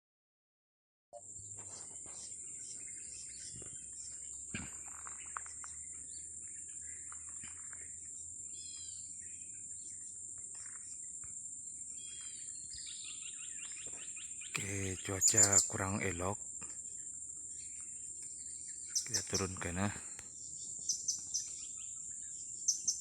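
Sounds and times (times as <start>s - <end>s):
small birds chirping: 1.2s - 23.0s.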